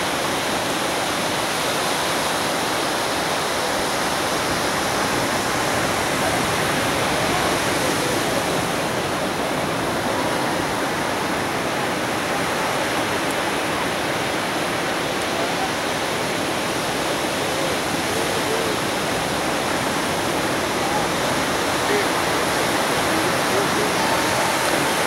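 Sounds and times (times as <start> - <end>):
ocean surf rushing: 0.0 - 25.0.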